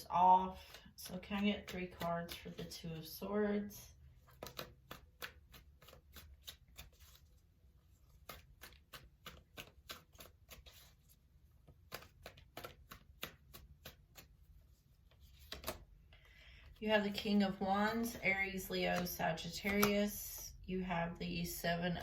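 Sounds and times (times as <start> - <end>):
cards being shuffled: 0.4 - 3.2, 4.0 - 20.2.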